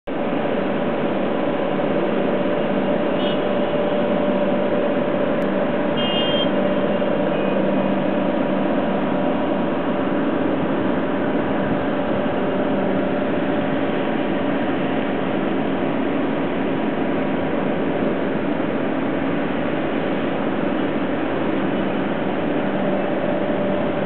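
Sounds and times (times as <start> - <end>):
city traffic noise: 0.0 - 24.0
machinery hum: 0.1 - 24.0.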